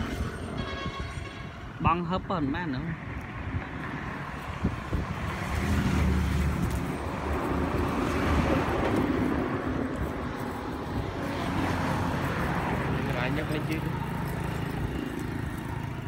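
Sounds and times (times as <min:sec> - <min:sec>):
vehicle passing with road noise: 0:00.0 - 0:16.0.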